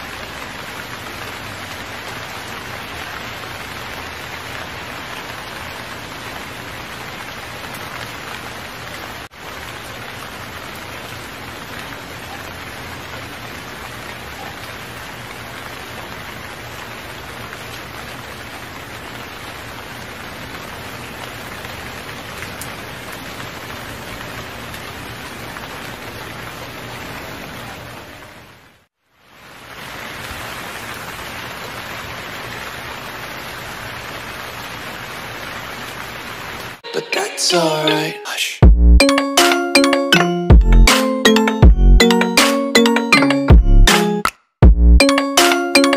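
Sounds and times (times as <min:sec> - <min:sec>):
heavy rainfall: 0:00.0 - 0:38.5.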